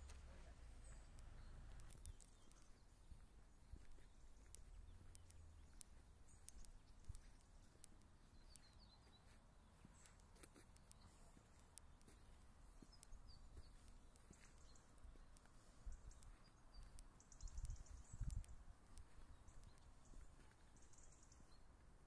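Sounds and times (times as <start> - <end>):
faint bird chirps: 0.0 - 21.8
light ticks: 0.0 - 21.9.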